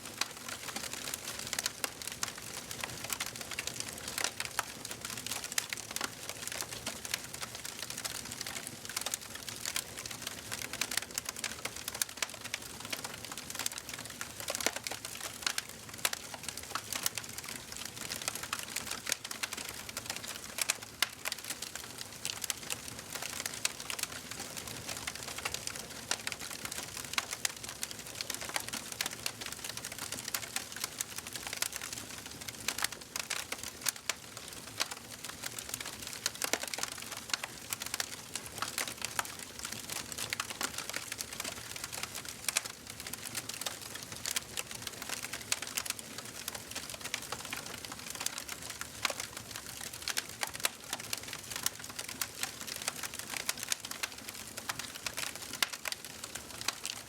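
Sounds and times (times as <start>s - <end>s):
logs crackling and popping: 0.0s - 57.0s.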